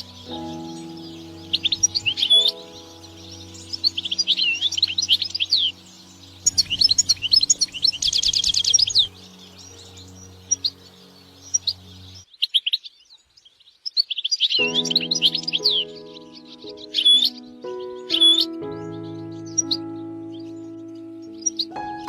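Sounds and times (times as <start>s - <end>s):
background music: 0.0s - 12.2s, 14.6s - 22.0s
goldfinch twittering song: 0.0s - 22.0s.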